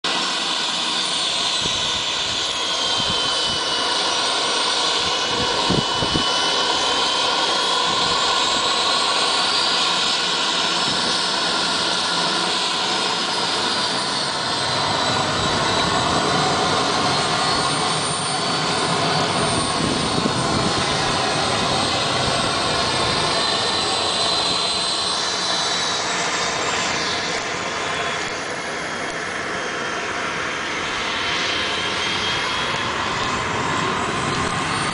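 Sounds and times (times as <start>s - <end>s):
jet turbine roar and whine: 0.0s - 34.9s.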